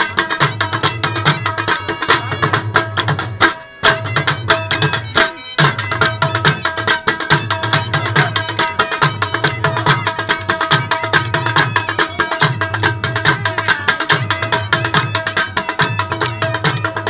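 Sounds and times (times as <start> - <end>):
barrel drum dance rhythm: 0.0 - 17.0.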